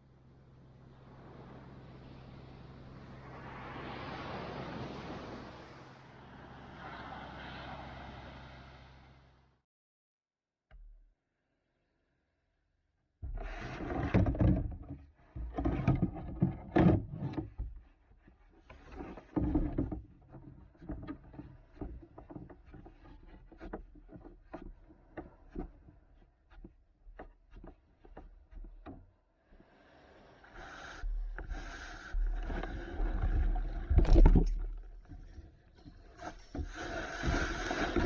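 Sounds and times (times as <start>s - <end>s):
knocks and clicks of boat and paddle: 0.0s - 9.3s, 10.7s - 11.1s, 13.2s - 38.0s
water rushing around kayak: 0.0s - 9.4s, 13.2s - 38.0s.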